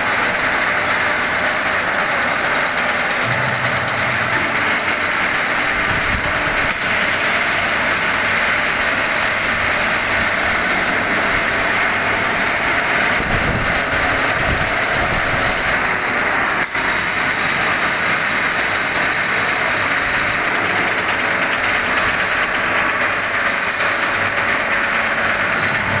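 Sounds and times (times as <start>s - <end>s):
workshop machinery running: 0.0s - 26.0s.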